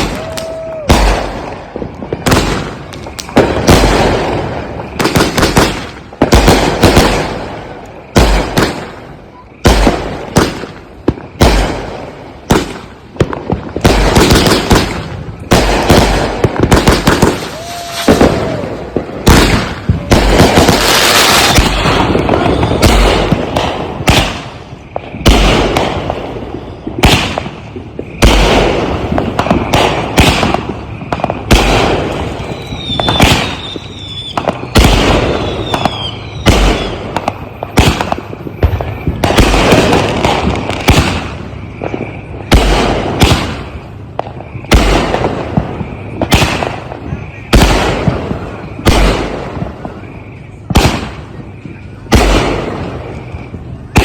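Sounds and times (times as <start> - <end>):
falling firework whistles: 0.0 - 54.0
firework booming shots: 0.0 - 54.0
firework crackling: 0.0 - 54.0.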